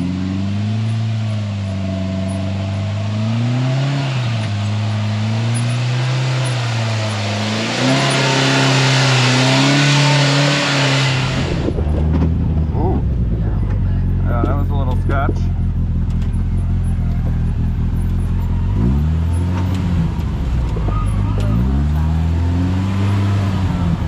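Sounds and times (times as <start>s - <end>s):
four-cylinder engine revving: 0.0s - 24.0s.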